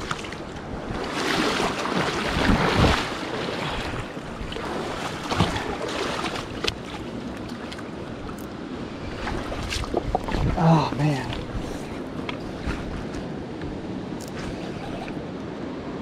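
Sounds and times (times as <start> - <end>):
river water rushing: 0.0 - 16.0
wind buffeting microphone: 0.0 - 16.0.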